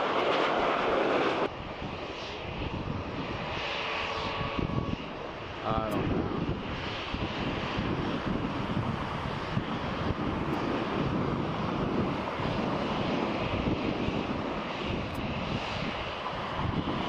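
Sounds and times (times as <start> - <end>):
jet engines rumbling and hissing: 0.0 - 17.0
wind gusting on microphone: 0.0 - 17.0.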